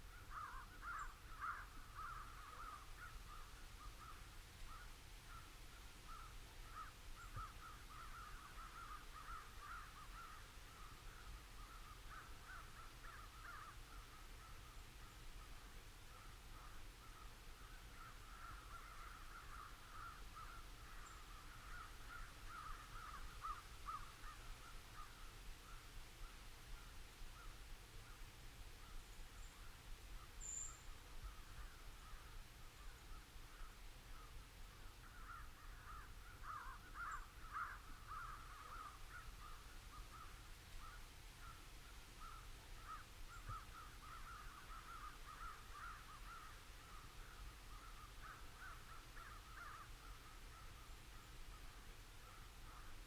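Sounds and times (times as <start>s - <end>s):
distant crows cawing: 0.1s - 14.7s, 16.1s - 25.8s, 31.3s - 41.6s, 42.2s - 51.3s.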